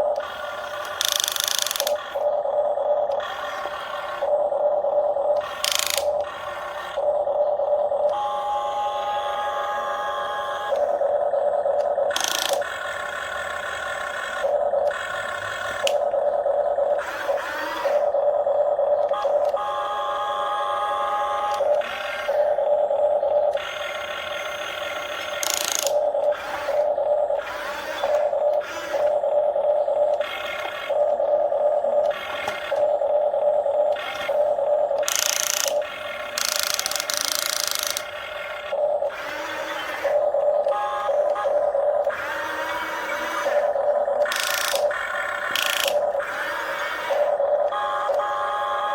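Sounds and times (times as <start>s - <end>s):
electric motors whining: 0.0s - 48.9s.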